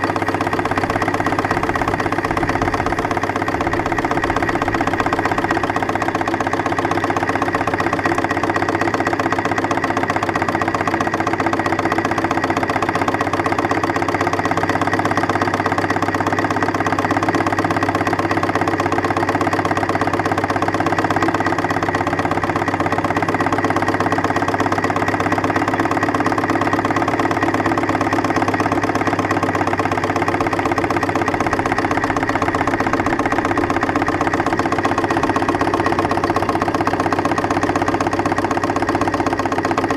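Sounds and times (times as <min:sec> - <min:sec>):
steam engine mechanical beat: 0:00.0 - 0:13.7, 0:19.2 - 0:39.9.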